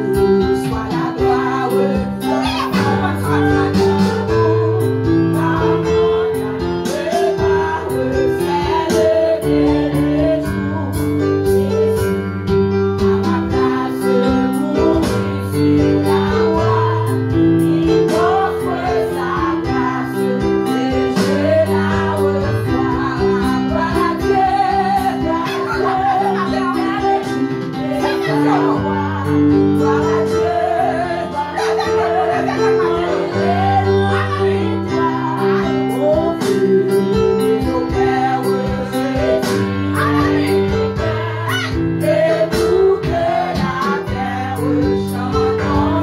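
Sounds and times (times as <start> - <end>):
instrumental accompaniment: 0.0 - 46.0
women singing worship song: 0.0 - 46.0.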